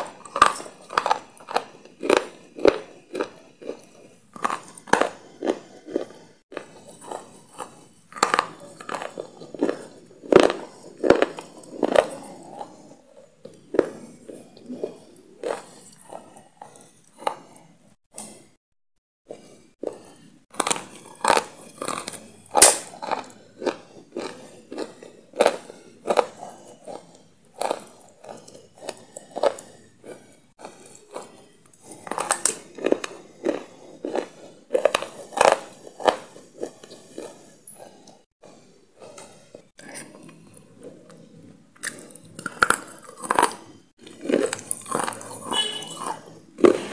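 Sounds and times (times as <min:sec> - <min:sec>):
crunchy biting and chewing: 0:00.0 - 0:17.5, 0:19.4 - 0:46.9.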